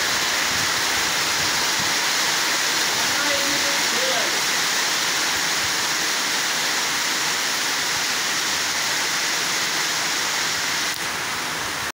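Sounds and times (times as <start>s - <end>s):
rain falling onto water: 0.0s - 11.9s.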